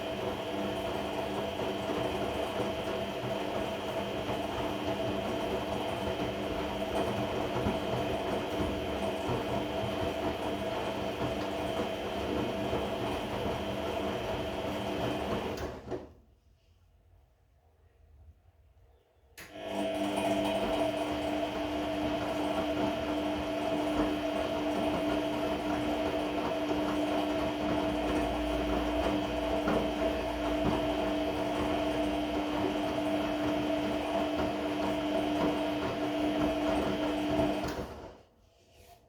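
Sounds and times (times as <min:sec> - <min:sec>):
washing machine whining drone: 0:00.0 - 0:16.2, 0:19.4 - 0:38.3.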